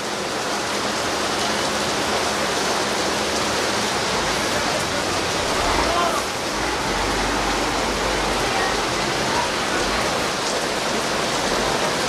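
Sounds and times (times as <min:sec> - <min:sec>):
heavy rain pouring on road: 0:00.0 - 0:12.0.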